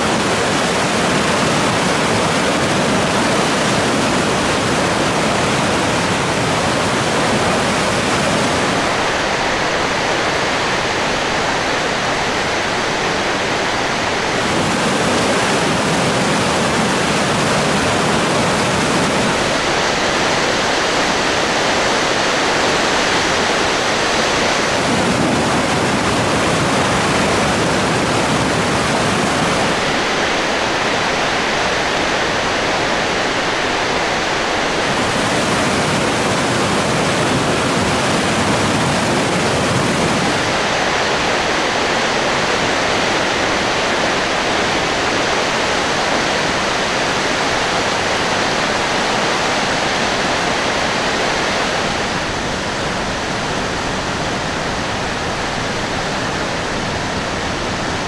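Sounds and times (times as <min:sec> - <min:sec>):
whitewater rushing: 0:00.0 - 0:58.0.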